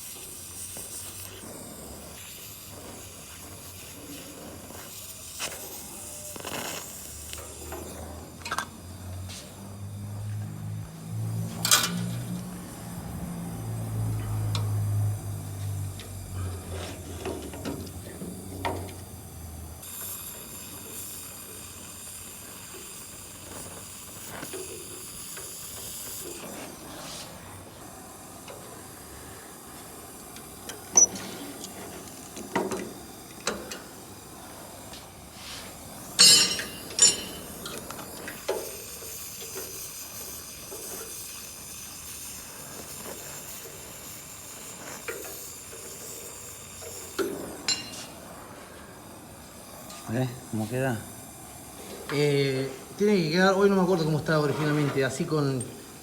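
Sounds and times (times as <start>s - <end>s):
welding torch hissing: 0.0s - 56.0s.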